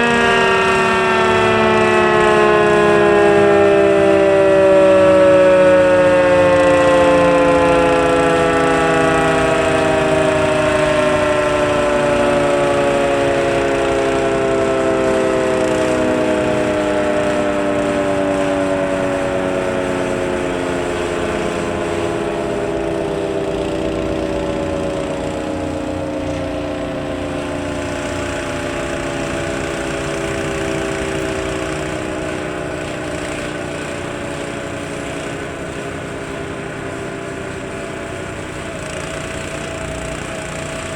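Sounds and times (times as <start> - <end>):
warning siren winding down: 0.0 - 40.9.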